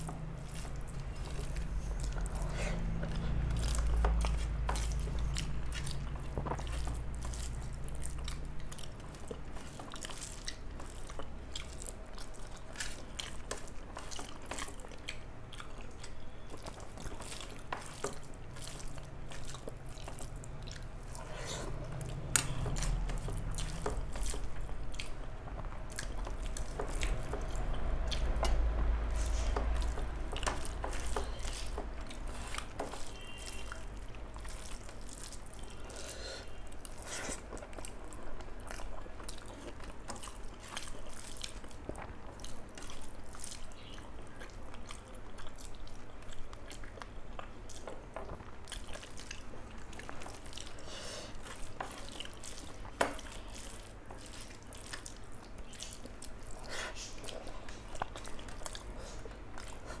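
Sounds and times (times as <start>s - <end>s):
wet chewing and lip smacks: 0.0s - 60.0s.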